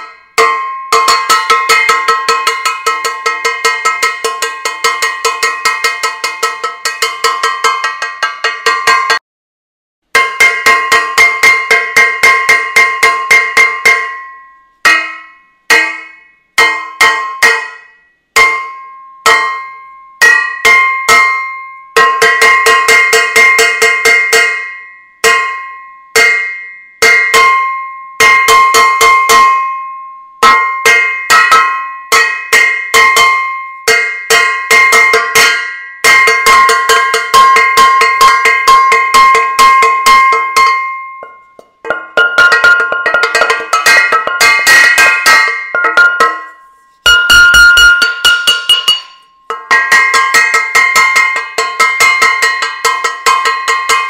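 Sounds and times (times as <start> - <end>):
metal saucepan being banged: 0.0 - 9.2, 10.1 - 25.6, 30.4 - 54.0.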